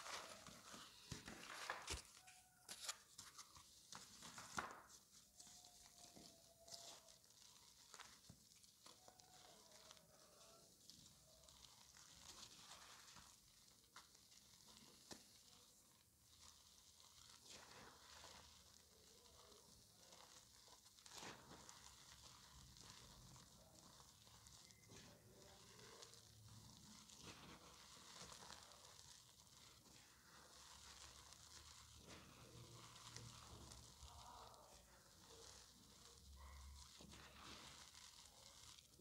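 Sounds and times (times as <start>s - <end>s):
chalk crunching and crumbling: 0.0s - 39.0s.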